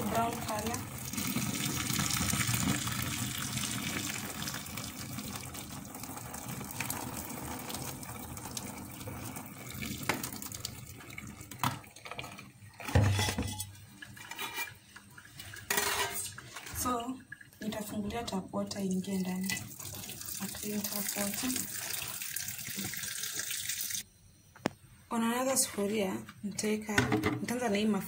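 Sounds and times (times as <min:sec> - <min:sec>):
water pouring into a metal sink: 0:00.0 - 0:13.0, 0:13.7 - 0:24.0.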